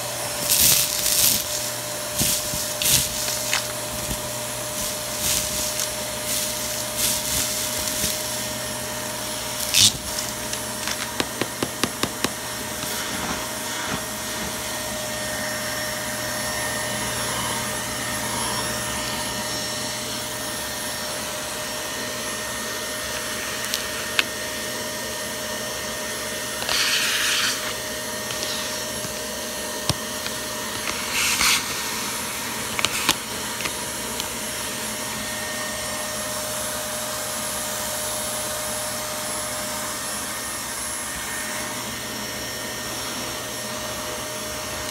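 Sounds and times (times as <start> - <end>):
vacuum cleaner with high whine: 0.0 - 44.9.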